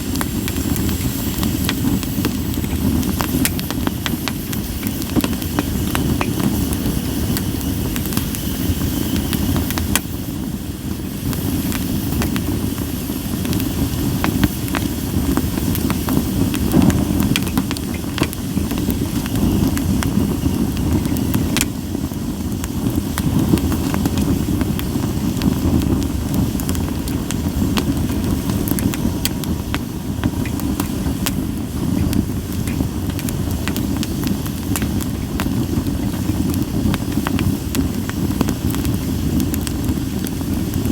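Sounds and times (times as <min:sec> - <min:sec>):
firewood crackles and pops: 0:00.0 - 0:40.9
low rumble of flames: 0:00.0 - 0:40.9.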